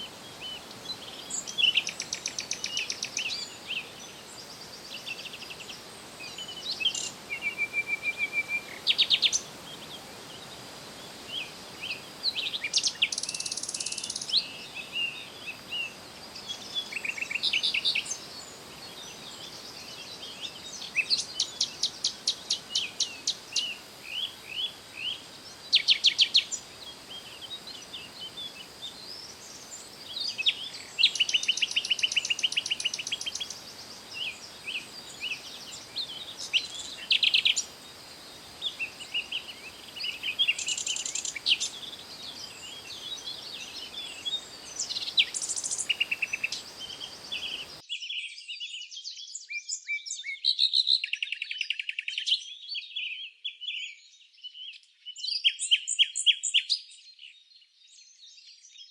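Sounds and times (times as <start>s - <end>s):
songbirds trilling and chirping: 0.0s - 58.9s.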